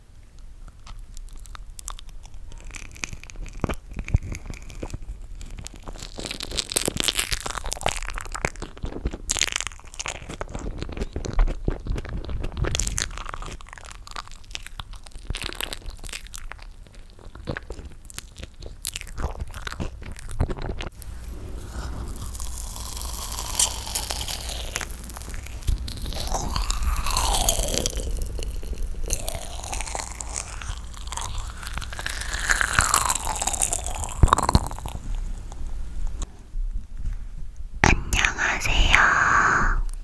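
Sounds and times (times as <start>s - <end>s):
chewing toasted marshmallow: 0.3s - 36.3s, 37.8s - 39.3s.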